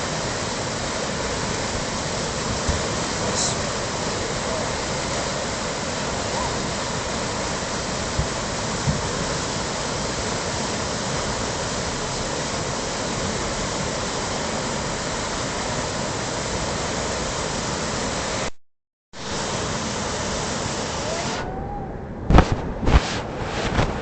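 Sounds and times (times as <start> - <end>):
rushing whitewater: 0.0 - 18.5, 19.2 - 24.0.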